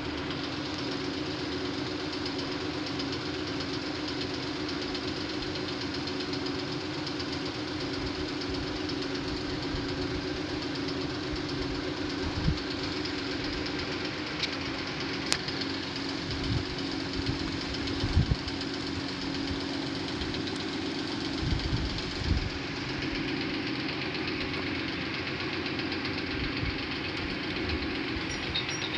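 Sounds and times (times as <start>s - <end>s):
mechanical drone: 0.0s - 28.9s.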